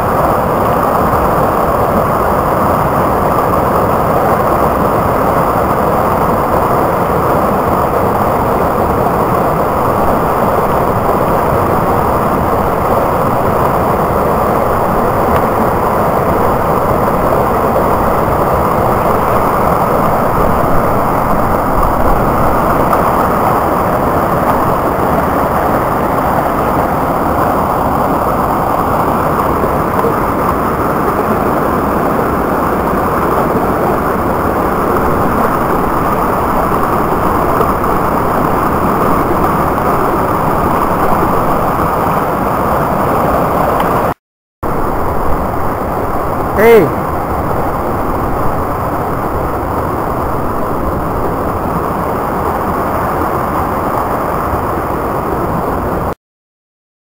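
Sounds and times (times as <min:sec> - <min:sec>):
brook water rushing over rocks: 0:00.0 - 0:56.2.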